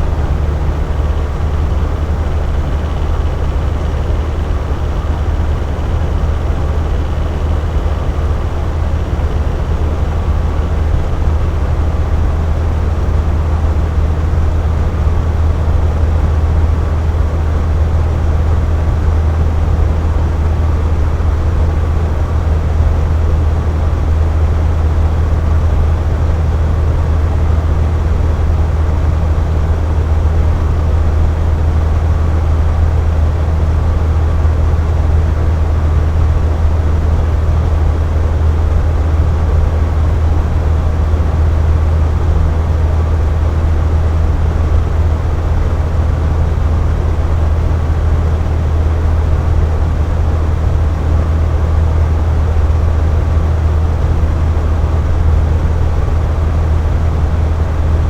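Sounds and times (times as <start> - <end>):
box fan running: 0.0 - 58.0.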